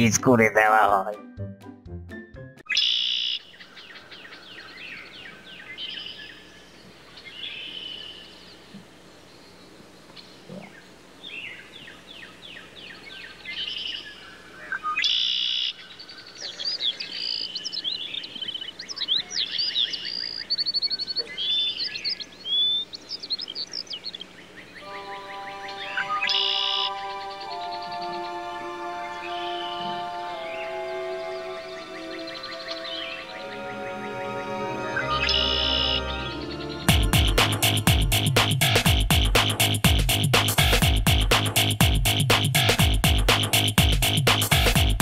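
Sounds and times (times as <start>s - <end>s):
birds chirping and singing: 2.7s - 39.0s.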